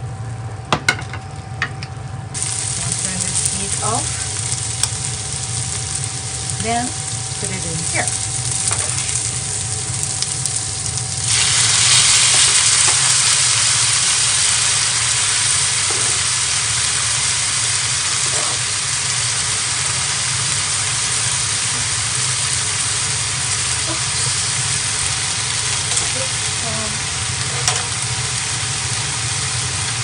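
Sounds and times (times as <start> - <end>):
frying pan sizzling: 0.0 - 30.0.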